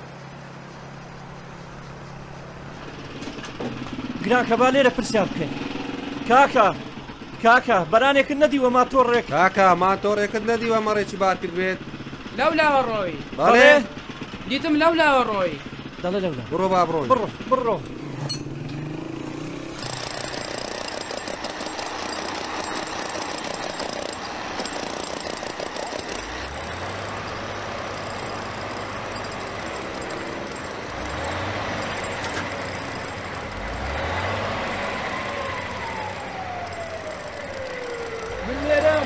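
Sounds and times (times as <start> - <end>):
lorry diesel engine revving: 0.0 - 7.9, 9.3 - 39.0.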